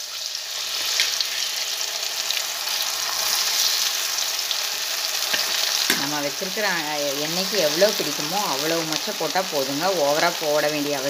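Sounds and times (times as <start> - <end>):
beans sizzling in hot oil: 0.0 - 11.0
oil crackling: 0.4 - 11.0.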